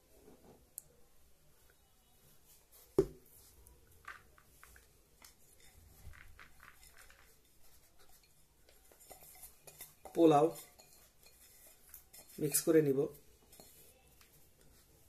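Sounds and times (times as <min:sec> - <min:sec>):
mix pouring with soft rustling: 0:00.0 - 0:15.0
hands scooping dry mix: 0:02.7 - 0:15.0.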